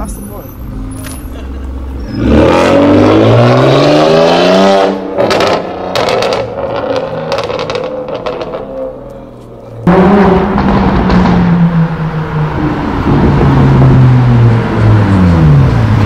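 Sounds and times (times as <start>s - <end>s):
loud steady sports car engine: 0.0s - 16.0s
car engine accelerating hard: 1.6s - 9.1s, 9.8s - 16.0s.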